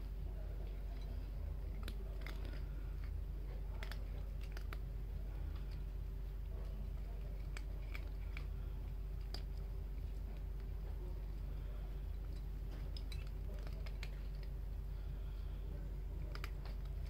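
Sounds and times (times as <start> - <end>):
low hum: 0.0 - 17.0
cats crunching dry food: 0.1 - 17.0.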